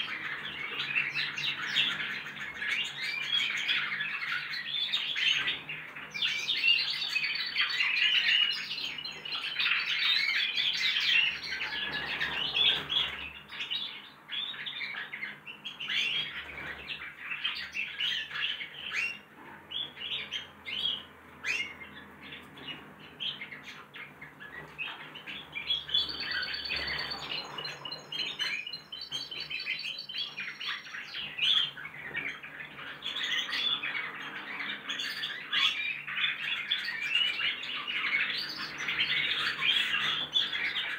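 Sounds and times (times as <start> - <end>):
young finches twittering and chirping: 0.0 - 40.9.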